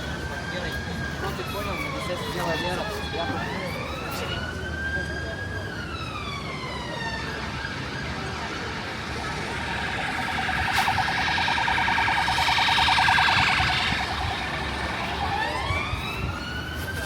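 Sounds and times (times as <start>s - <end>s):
emergency vehicle siren: 0.0s - 17.0s
low street noise: 0.0s - 17.0s.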